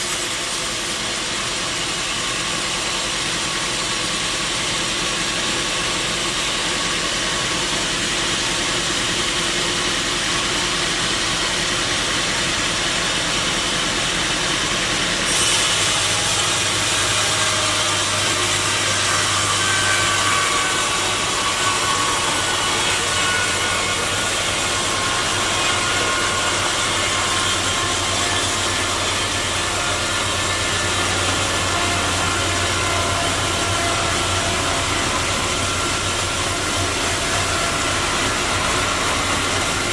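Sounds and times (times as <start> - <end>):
saw cutting timber: 0.0 - 39.9.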